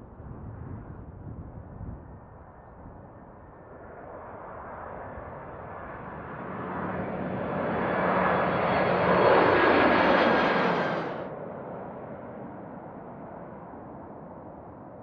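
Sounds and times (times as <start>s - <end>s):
jet engines rushing overhead: 0.0s - 15.0s
faint engine whine: 2.9s - 15.0s.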